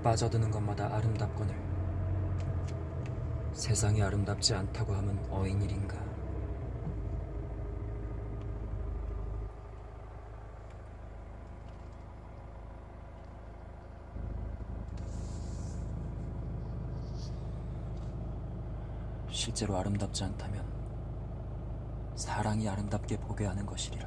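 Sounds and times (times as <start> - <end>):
car rumble inside cabin: 0.0 - 24.0.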